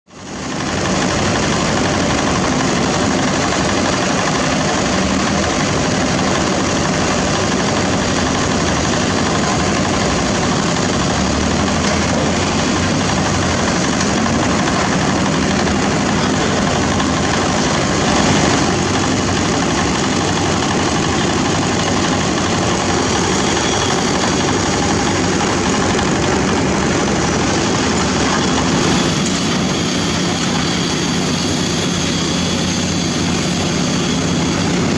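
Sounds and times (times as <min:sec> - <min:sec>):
excavator diesel engine: 0:00.1 - 0:34.9
street traffic: 0:00.2 - 0:34.9.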